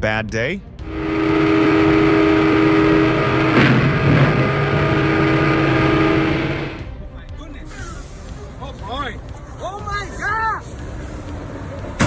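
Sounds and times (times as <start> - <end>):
train horn long blast: 0.8 - 12.0
train crashing into vehicle: 1.0 - 12.0.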